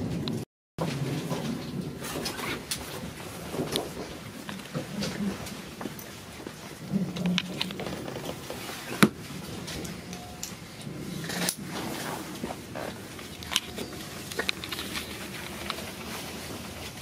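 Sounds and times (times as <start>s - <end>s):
train carriage running noise: 0.0s - 17.0s.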